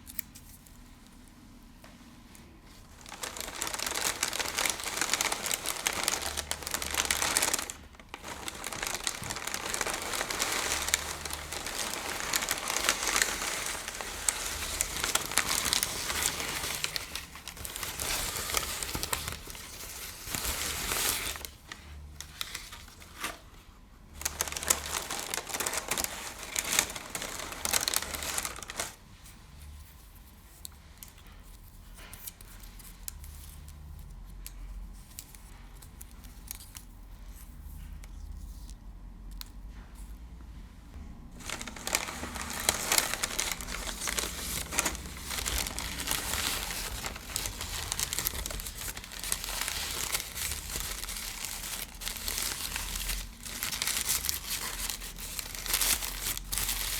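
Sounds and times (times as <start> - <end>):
crinkly material crumpling: 0.0 - 40.2, 41.3 - 56.9.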